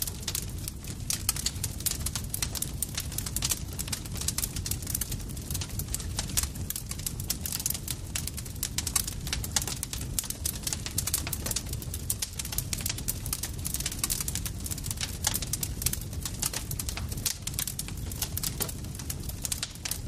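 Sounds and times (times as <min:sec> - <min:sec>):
burning wood popping and snapping: 0:00.0 - 0:20.0
low rumble of flames: 0:00.0 - 0:20.0.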